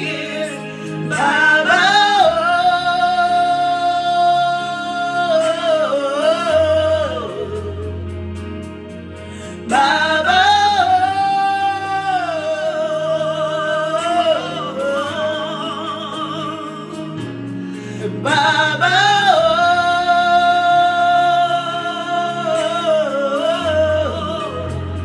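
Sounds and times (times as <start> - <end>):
person singing wordless notes: 0.0 - 25.0
sustained chords: 0.0 - 25.0.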